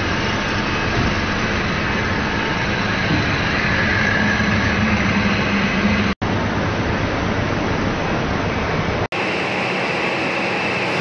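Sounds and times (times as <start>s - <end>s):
fryer production line machinery: 0.0s - 11.0s.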